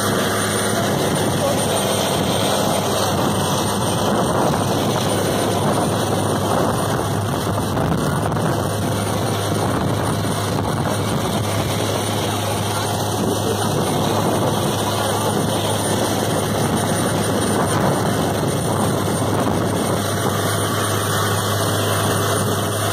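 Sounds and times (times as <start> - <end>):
boat engine running: 0.0 - 22.9
water spraying along hull: 0.0 - 22.9.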